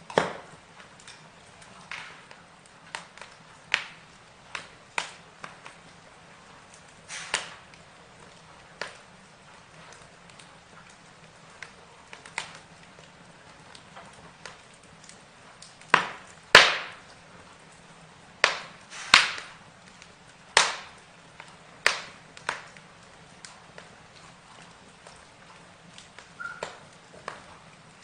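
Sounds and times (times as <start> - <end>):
burning wood crackling: 0.0 - 28.0
sharp pops of fire: 0.0 - 28.0.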